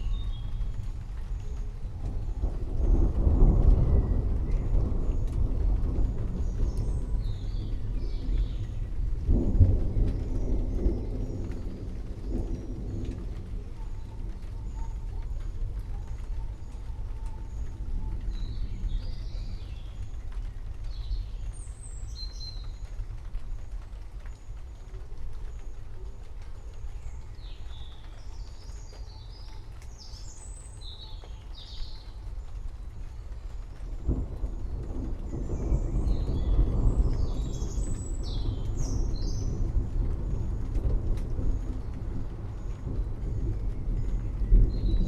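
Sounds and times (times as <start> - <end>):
distant thunder: 0.0 - 45.0
songbirds chirping and trilling: 0.0 - 45.0
steady low rumble: 0.0 - 45.0
drip-like ticks: 0.1 - 45.0.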